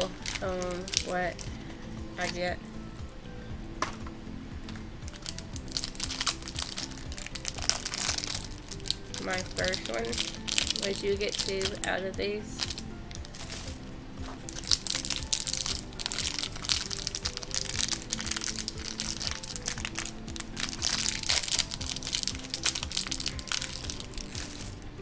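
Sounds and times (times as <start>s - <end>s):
packaging crinkling and tearing: 0.0s - 1.6s, 5.1s - 11.9s, 12.6s - 24.8s
background music of held notes: 0.0s - 25.0s.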